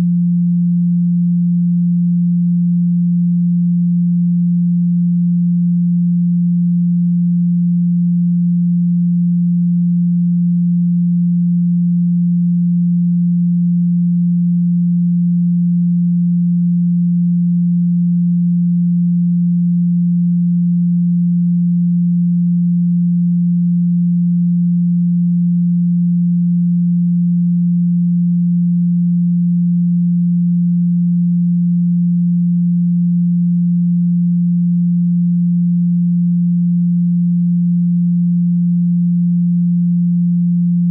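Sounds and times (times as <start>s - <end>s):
steady pure tone: 0.0s - 40.9s.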